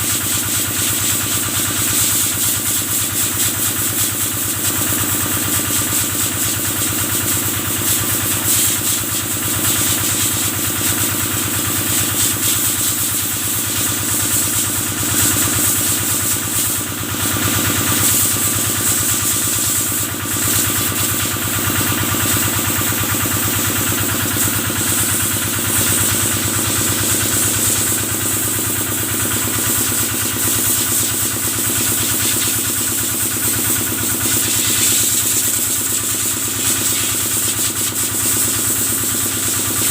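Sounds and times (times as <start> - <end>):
water spraying hiss: 7.2 - 39.9.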